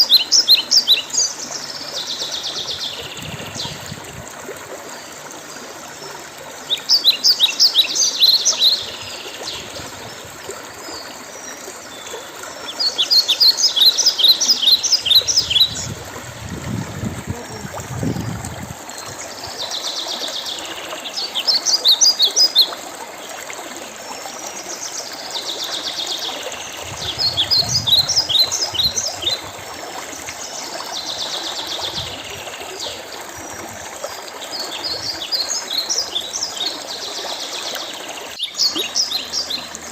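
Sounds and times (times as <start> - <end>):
songbird singing: 0.0 - 4.0, 6.0 - 22.8, 24.4 - 33.7, 34.4 - 39.9
stream trickling: 0.0 - 39.9.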